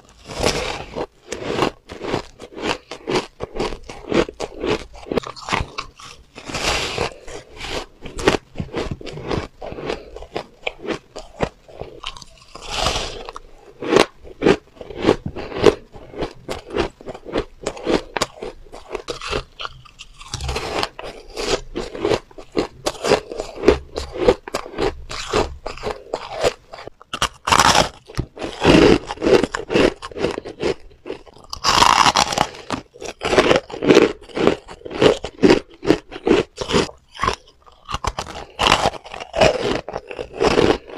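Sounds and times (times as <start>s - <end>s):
chewing shaved ice crunches: 0.0s - 40.9s.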